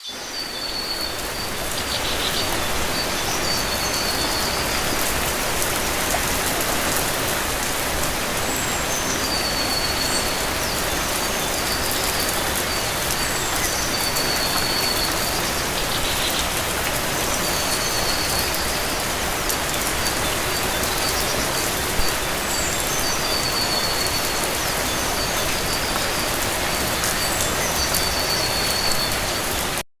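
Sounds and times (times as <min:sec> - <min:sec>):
heavy rain: 0:00.0 - 0:29.8.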